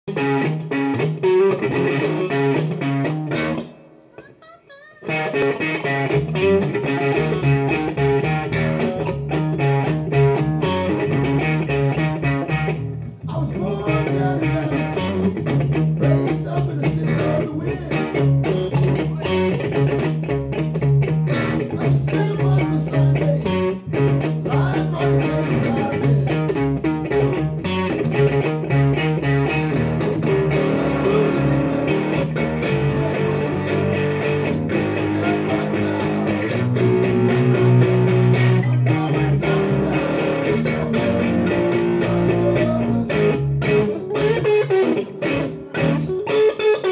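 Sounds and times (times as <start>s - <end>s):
electric guitar: 0.0s - 46.9s
electric bass: 5.4s - 46.3s.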